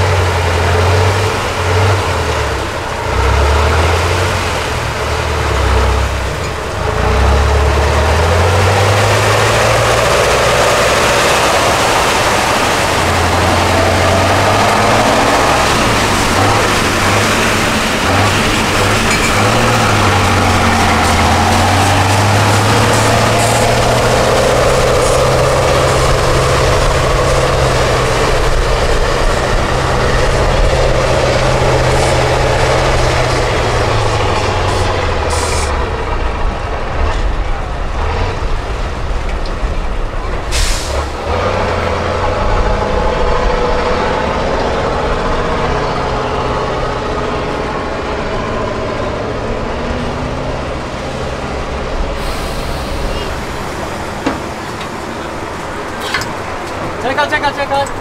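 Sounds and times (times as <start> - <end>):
truck engine running hard: 0.0 - 58.0.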